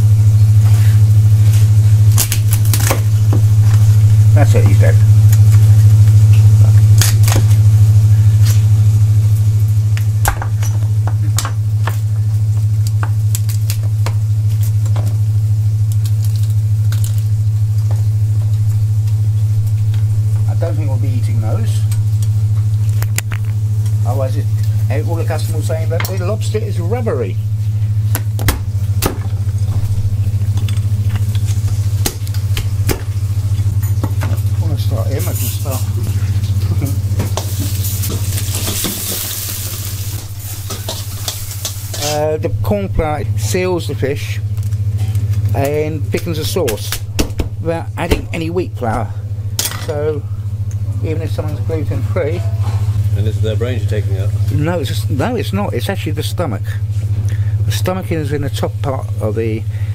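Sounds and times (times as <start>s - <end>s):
loud low hum: 0.0s - 59.9s.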